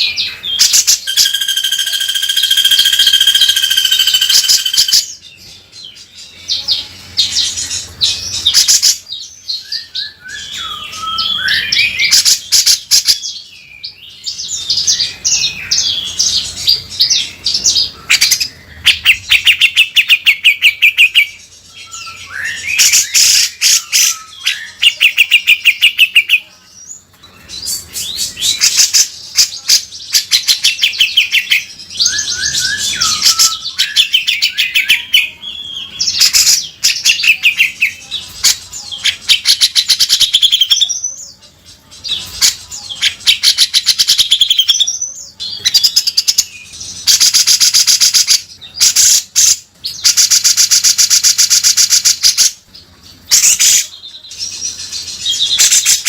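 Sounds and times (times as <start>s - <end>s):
bulbul chattering song: 0.0s - 56.0s.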